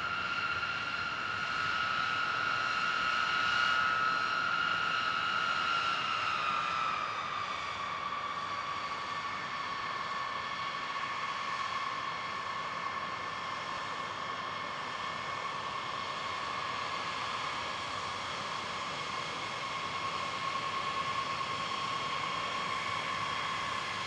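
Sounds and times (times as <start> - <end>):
jet engines taxiing: 0.0 - 24.0.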